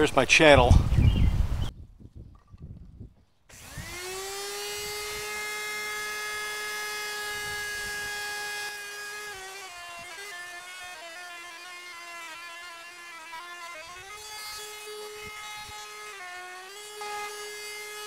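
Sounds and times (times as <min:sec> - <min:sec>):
electric router whining: 0:03.5 - 0:18.0.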